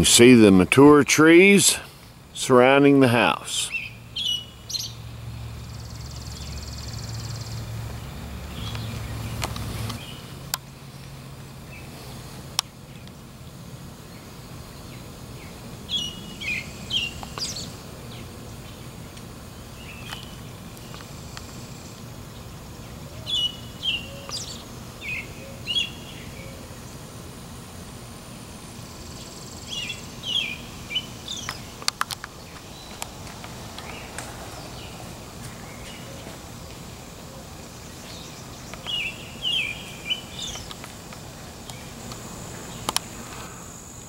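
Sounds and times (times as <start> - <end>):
songbird chirping: 2.4 - 27.1, 28.8 - 43.6.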